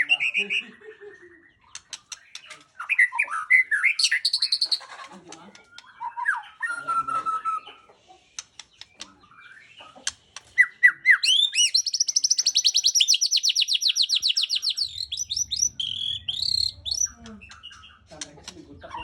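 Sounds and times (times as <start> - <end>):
songbird singing whistles and trills: 0.0 - 4.8, 5.6 - 7.9, 8.7 - 18.1.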